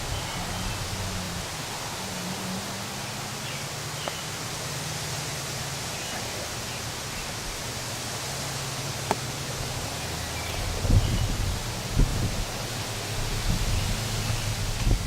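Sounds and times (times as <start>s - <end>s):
outdoor field hiss: 0.0s - 15.0s.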